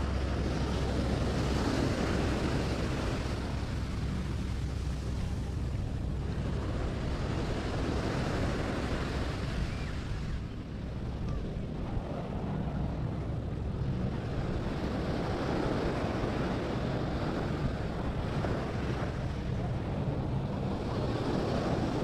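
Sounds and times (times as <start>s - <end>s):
small waves breaking on shore: 0.0s - 22.0s
wind buffeting microphone: 0.0s - 22.0s.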